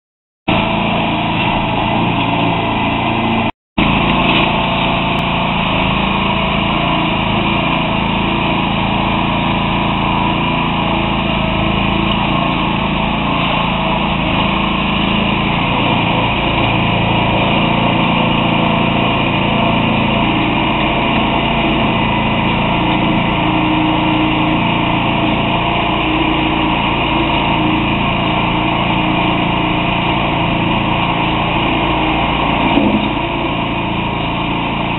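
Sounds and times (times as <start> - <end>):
concrete mixer engine running: 0.5 - 34.9.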